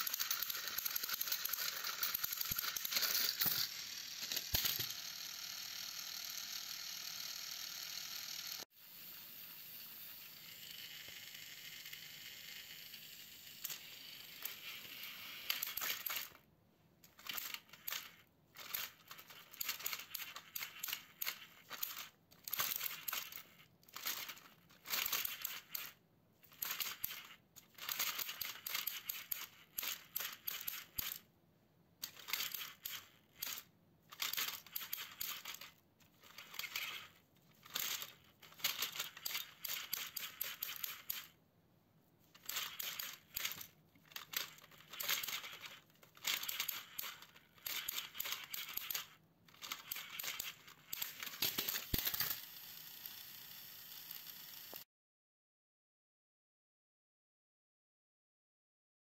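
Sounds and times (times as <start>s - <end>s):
toy train clattering and clicking: 0.0s - 31.3s, 32.0s - 41.4s, 42.3s - 54.9s
toy train motor whir: 0.0s - 31.3s, 32.0s - 41.4s, 42.3s - 54.9s.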